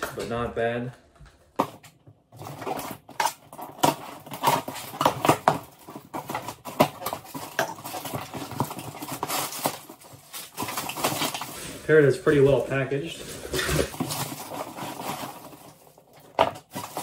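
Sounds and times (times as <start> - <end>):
cardboard box handled and opened: 2.4 - 17.0.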